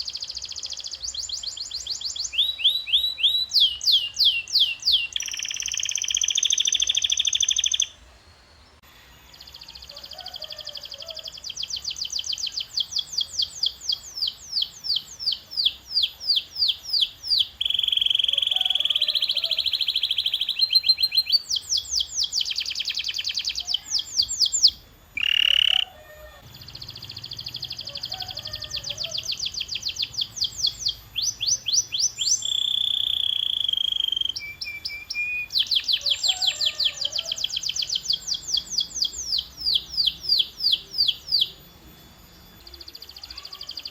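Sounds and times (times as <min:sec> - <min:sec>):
canary singing: 0:00.0 - 0:08.0, 0:08.7 - 0:43.9.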